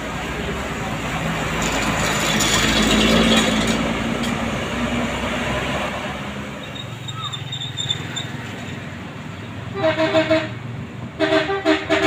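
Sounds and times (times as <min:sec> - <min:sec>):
bus passing: 0:00.0 - 0:12.0.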